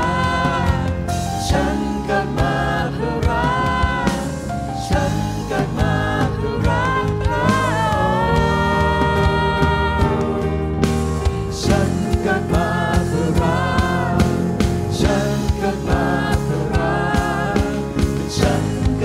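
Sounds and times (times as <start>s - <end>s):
church worship band playing: 0.0s - 19.0s.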